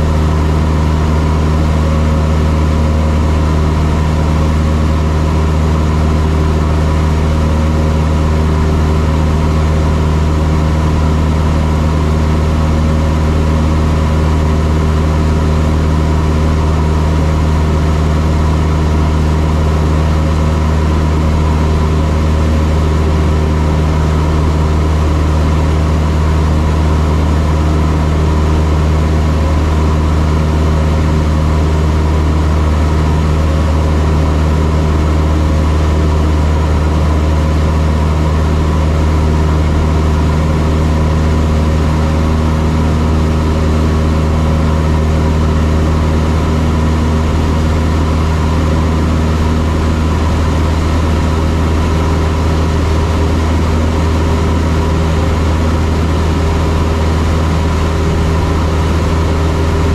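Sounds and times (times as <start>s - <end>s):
propeller plane engine drone: 0.0s - 59.9s.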